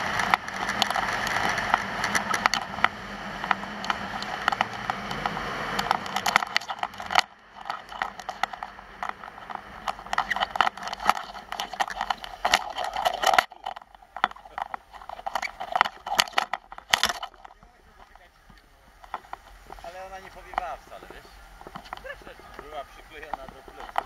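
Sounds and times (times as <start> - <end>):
skis scraping over packed snow: 0.0 - 13.4, 16.8 - 24.0.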